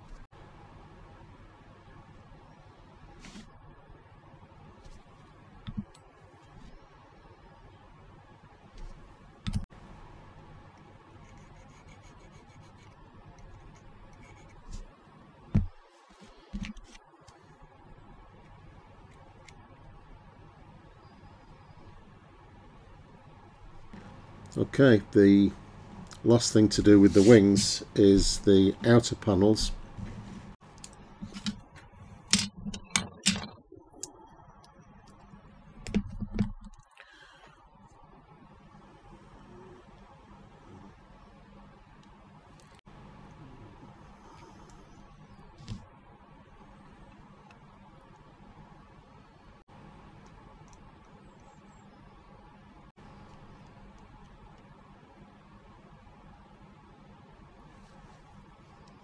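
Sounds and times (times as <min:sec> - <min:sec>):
faint room hum: 0:00.0 - 0:59.0.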